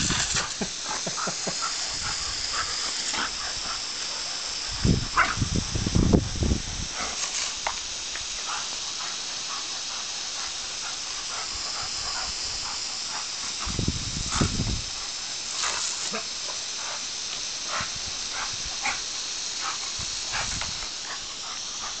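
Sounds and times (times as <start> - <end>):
garden hose spraying water: 0.0 - 22.0.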